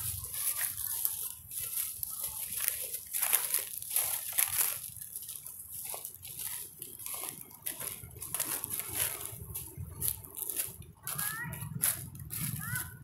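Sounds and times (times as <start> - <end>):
dry leaves crunching: 0.0 - 13.0.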